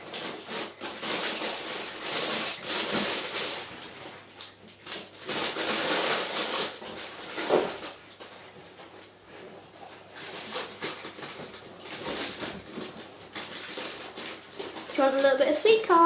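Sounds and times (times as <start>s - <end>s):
rustling and scuffling: 0.0s - 16.0s.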